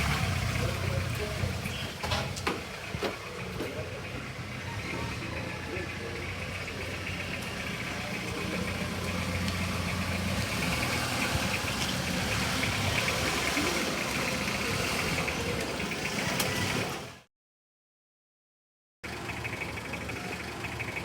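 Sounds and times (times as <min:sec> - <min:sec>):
van engine running: 0:00.0 - 0:17.3, 0:19.0 - 0:21.0.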